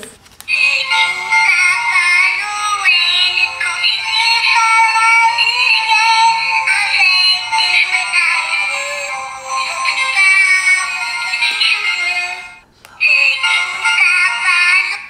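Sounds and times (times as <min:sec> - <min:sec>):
tinny electronic tune from greeting card: 0:00.5 - 0:15.0.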